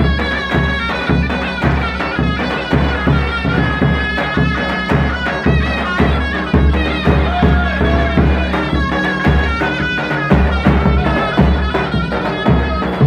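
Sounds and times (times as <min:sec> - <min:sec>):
reedy wind melody: 0:00.0 - 0:13.0
steady drum beat: 0:00.0 - 0:13.0.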